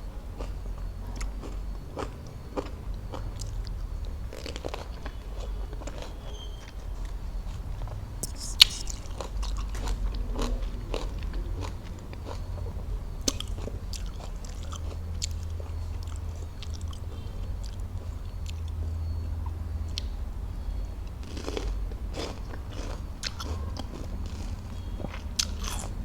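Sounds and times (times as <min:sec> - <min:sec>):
fruit being chewed: 0:00.3 - 0:20.2, 0:21.0 - 0:26.0.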